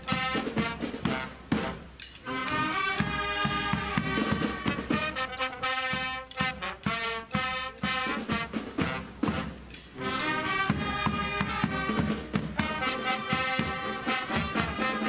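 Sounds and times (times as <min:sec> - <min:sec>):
brass marching band playing: 0:00.0 - 0:15.0.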